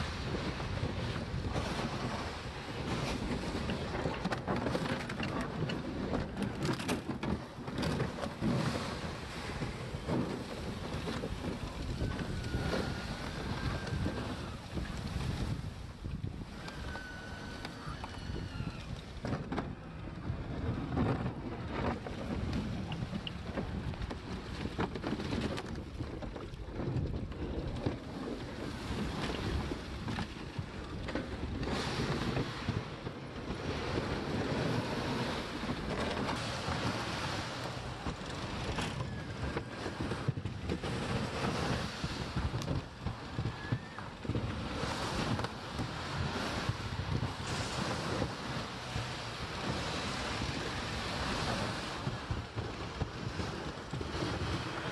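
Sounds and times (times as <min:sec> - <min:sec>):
plastic sled scraping over snow: 0:00.0 - 0:54.9
wind buffeting microphone: 0:00.0 - 0:54.9.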